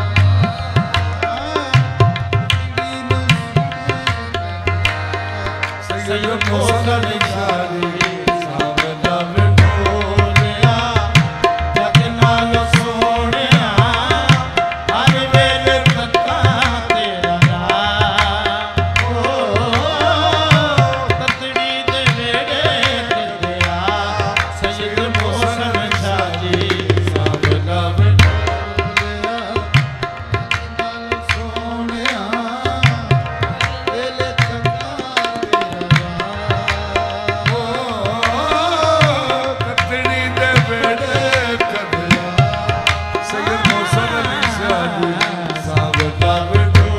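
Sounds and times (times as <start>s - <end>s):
harmonium melody: 0.0s - 46.9s
tabla drumming: 0.0s - 46.9s.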